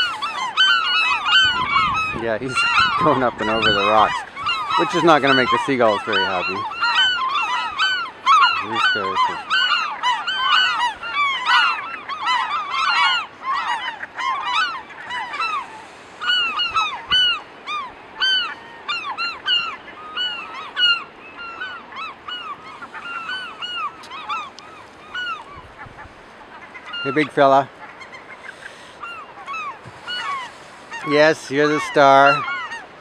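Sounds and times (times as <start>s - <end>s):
gulls calling: 0.0s - 33.0s.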